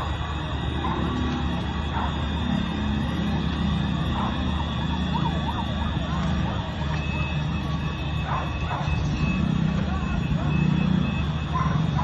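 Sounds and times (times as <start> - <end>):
emergency vehicle sirens wailing: 0.0 - 12.0.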